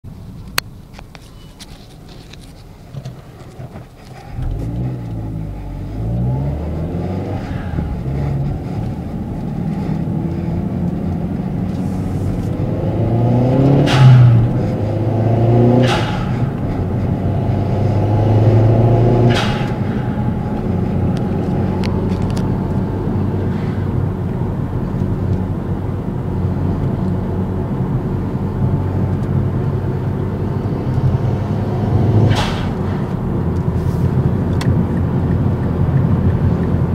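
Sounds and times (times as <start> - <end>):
car engine revving: 2.1 - 36.9.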